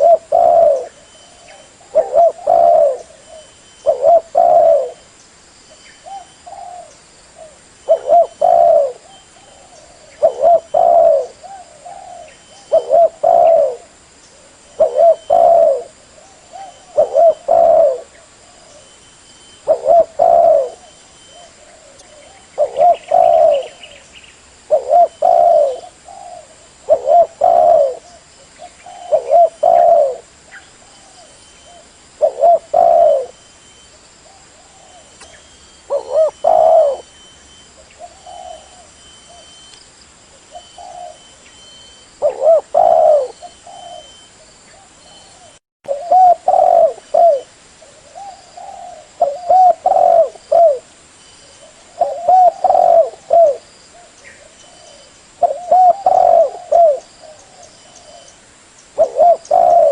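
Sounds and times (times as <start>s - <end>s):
dove cooing: 0.0s - 5.1s, 6.0s - 33.5s, 34.2s - 39.7s, 40.3s - 50.9s, 51.5s - 58.4s, 59.0s - 59.9s.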